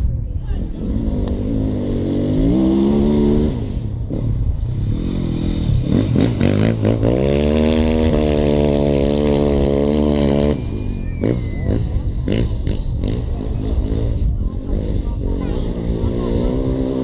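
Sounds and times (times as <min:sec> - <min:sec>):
motorcycle engine revving hard: 0:00.8 - 0:17.0.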